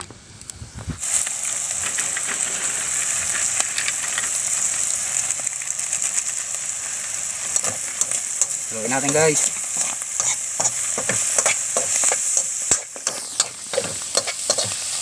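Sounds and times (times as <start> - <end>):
food sizzling in a wok: 0.9 - 15.0.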